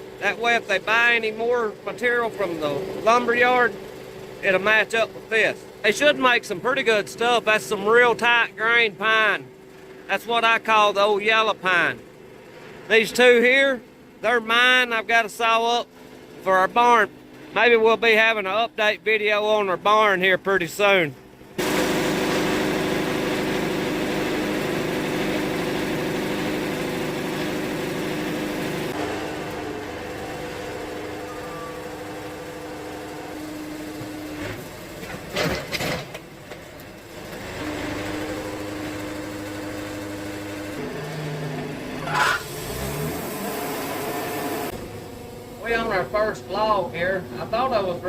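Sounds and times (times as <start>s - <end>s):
sawmill engine running: 0.0s - 48.0s.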